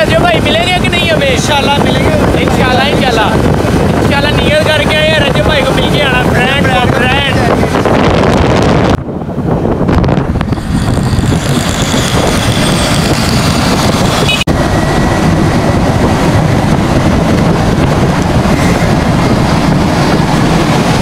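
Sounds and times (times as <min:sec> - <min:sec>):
motorcycle road noise: 0:00.0 - 0:21.0
wind rush on microphone: 0:00.0 - 0:21.0.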